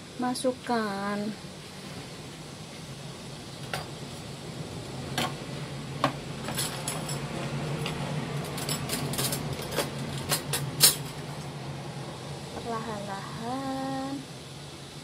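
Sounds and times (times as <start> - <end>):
low steady hum: 0.0 - 15.0
water boiling in a pot: 0.0 - 15.0.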